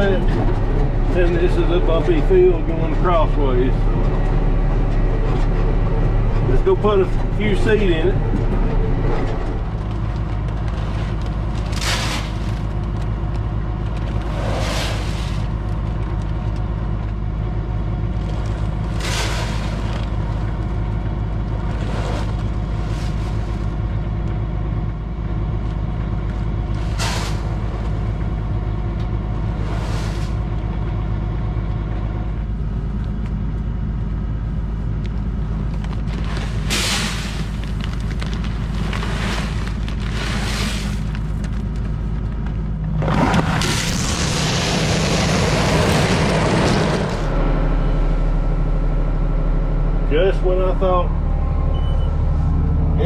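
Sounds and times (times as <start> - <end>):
tractor diesel engine droning: 0.0 - 53.0.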